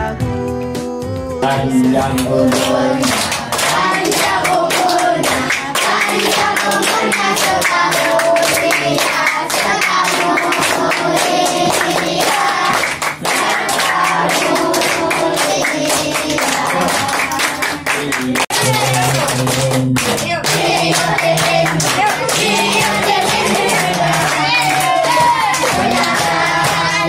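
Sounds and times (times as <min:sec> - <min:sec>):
children clapping in rhythm: 0:01.4 - 0:27.0
children singing together: 0:01.6 - 0:17.7, 0:20.5 - 0:27.0.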